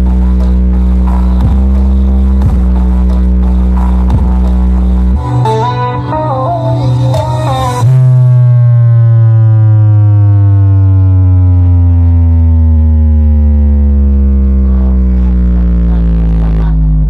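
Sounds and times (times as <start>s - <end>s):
electronic bass tone sliding down: 0.0s - 17.0s.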